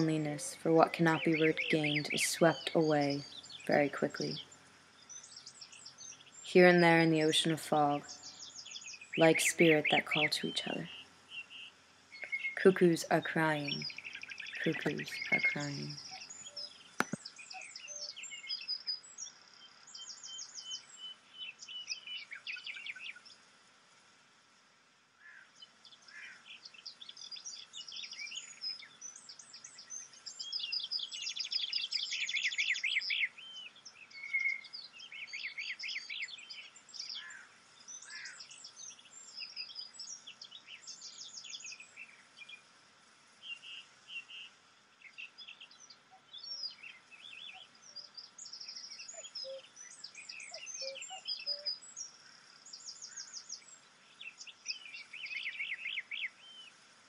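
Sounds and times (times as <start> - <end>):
birds chirping and trilling: 0.0 - 23.4, 25.3 - 56.9.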